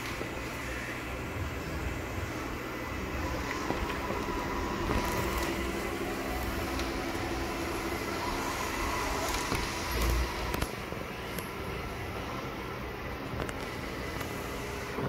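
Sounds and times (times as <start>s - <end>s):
robot vacuum whirring: 0.0s - 12.3s.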